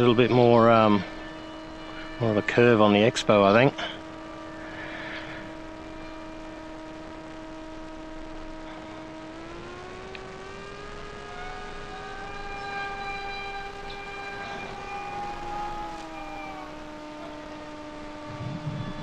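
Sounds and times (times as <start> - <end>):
electric motor and propeller whine: 0.0 - 19.0.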